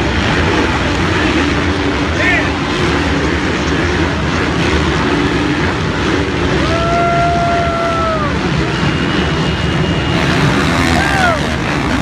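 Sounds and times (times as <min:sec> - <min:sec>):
motocross bikes racing by: 0:00.0 - 0:12.0.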